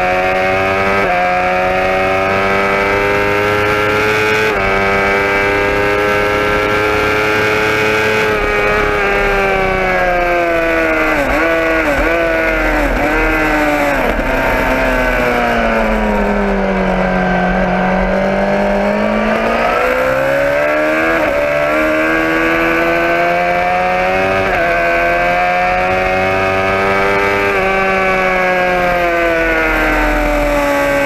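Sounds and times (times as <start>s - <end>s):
motorcycle engine: 0.0s - 31.0s
low wind rumble: 5.4s - 30.4s.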